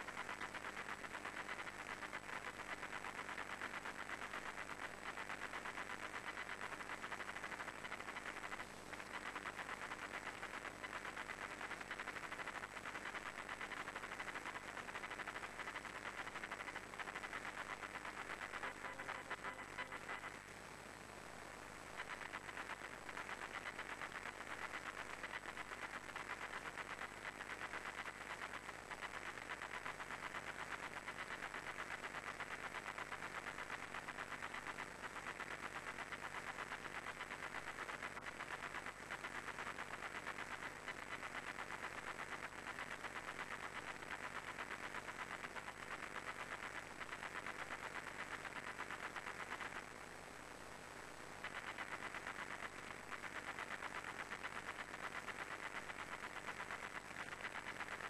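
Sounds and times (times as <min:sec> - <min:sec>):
tape hiss: 0:00.0 - 0:58.0.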